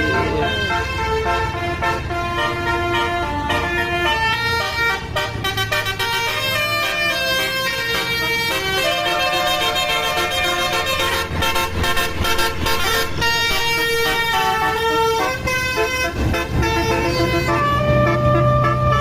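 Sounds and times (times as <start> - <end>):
musical air horn melody: 0.0 - 19.0.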